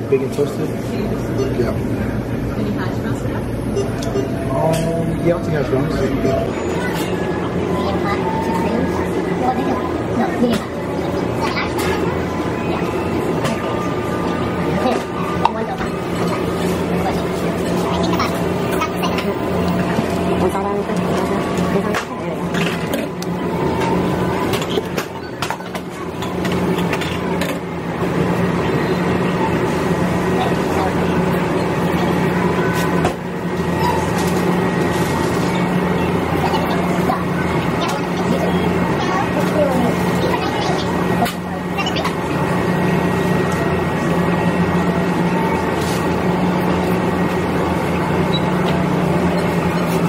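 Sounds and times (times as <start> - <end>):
shop equipment humming: 0.0 - 50.0.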